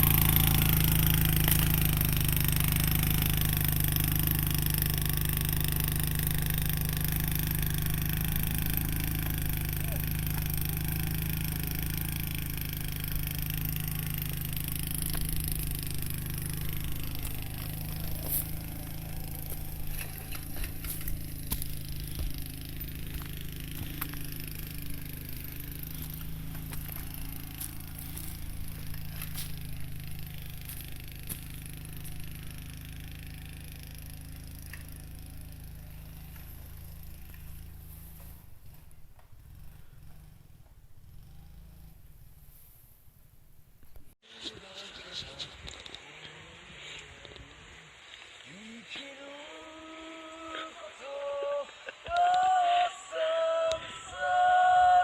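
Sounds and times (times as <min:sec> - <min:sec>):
small motorcycle engine running: 0:00.0 - 0:50.7.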